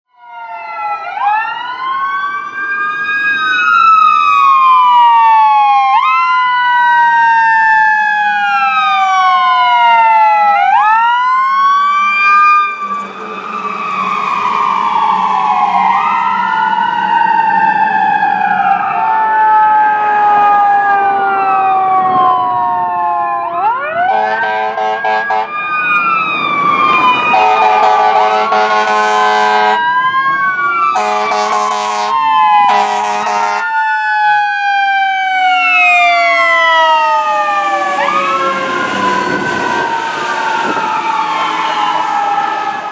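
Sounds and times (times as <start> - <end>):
fire engine sirens: 0.1 - 42.9.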